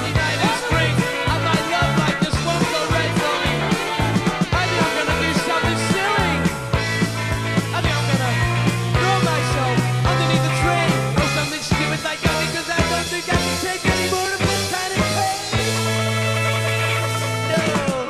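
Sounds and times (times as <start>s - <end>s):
held bass notes: 0.0s - 18.0s
steady drum beat: 0.0s - 18.0s.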